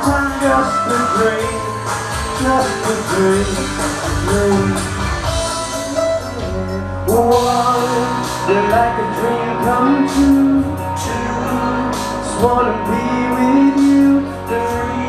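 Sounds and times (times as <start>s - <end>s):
man singing into microphone: 0.0s - 5.0s, 5.9s - 15.0s
music backing track: 0.0s - 15.0s.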